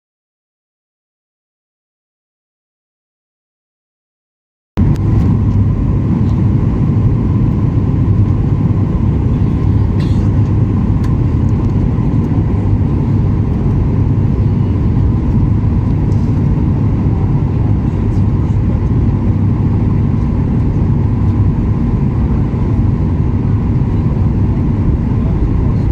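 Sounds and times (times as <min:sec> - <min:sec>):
low engine rumble in cabin: 0:04.8 - 0:25.9
thin engine whine: 0:04.8 - 0:25.9.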